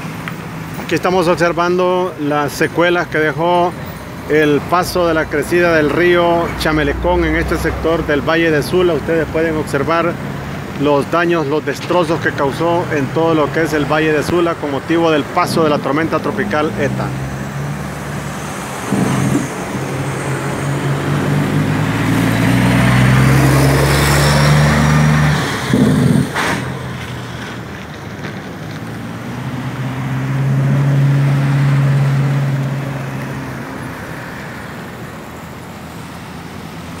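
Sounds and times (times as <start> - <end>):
trucks and cars passing: 0.0 - 37.0.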